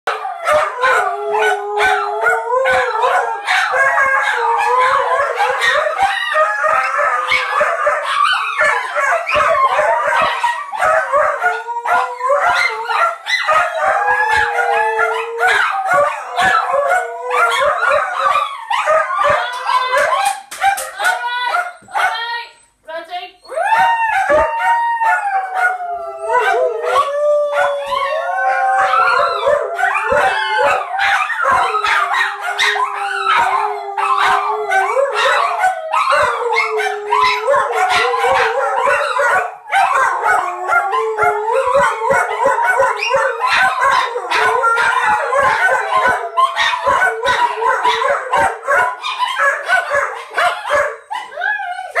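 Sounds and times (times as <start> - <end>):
dogs howling together: 0.1 - 22.1, 23.4 - 52.0.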